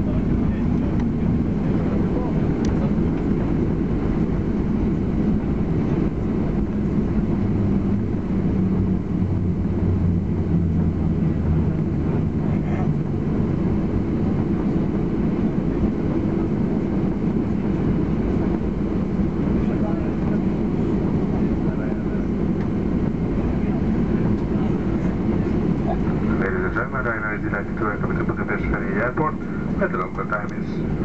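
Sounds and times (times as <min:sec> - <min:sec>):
droning hum: 0:00.0 - 0:31.0
rumble of engines and wheels: 0:00.0 - 0:31.0.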